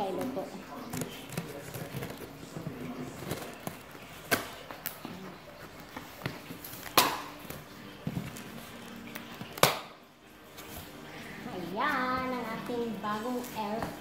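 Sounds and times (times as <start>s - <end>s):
rustling cardboard and tape: 0.0s - 9.8s, 10.4s - 14.0s.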